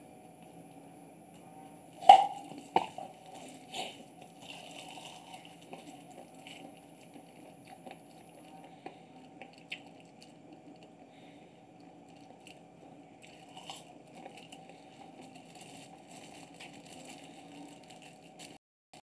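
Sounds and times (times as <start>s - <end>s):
cats chewing: 2.5s - 18.6s.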